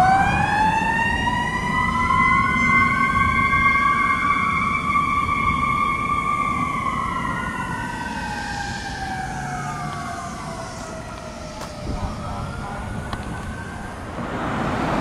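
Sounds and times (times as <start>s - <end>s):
fire truck siren wailing: 0.0s - 15.0s
low road rumble: 0.0s - 15.0s.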